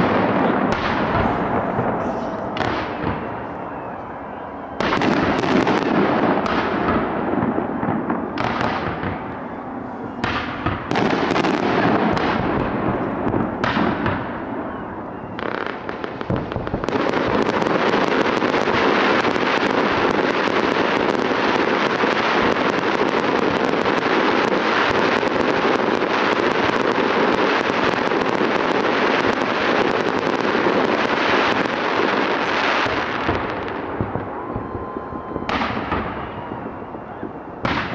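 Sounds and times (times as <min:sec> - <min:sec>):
firework bangs: 0:00.0 - 0:37.9
firework crackle: 0:00.0 - 0:37.9.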